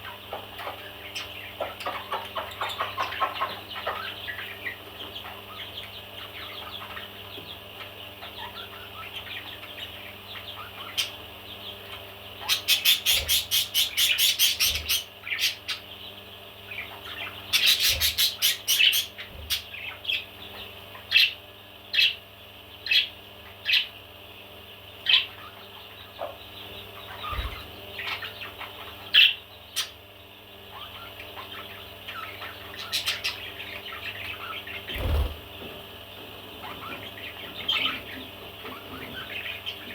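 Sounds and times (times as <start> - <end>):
parrots chattering: 0.0 - 22.2, 25.0 - 39.9.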